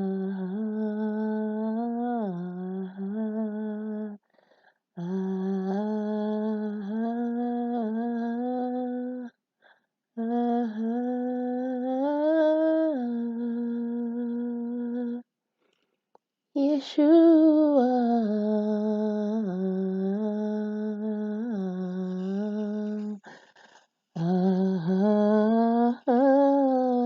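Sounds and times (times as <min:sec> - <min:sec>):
person humming a slow melody: 0:00.0 - 0:04.2, 0:05.0 - 0:09.3, 0:10.2 - 0:15.2, 0:16.6 - 0:23.5, 0:24.2 - 0:27.0.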